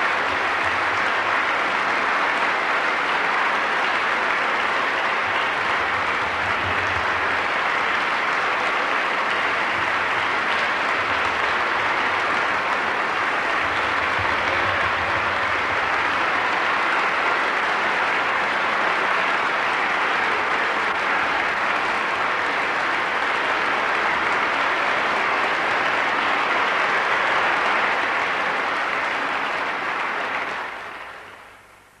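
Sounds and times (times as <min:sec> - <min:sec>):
audience applauding: 0:00.0 - 0:31.8.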